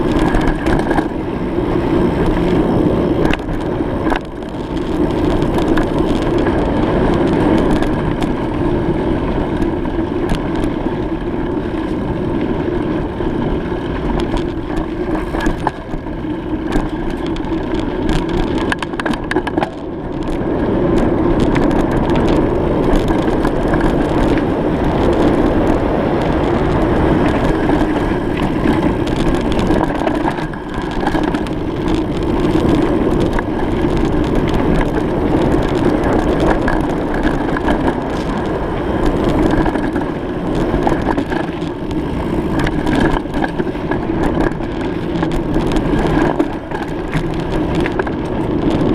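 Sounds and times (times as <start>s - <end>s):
bicycle tyres rolling on road: 0.0s - 48.9s
small clicks and rattles: 0.0s - 48.9s
wind on microphone: 0.0s - 48.9s.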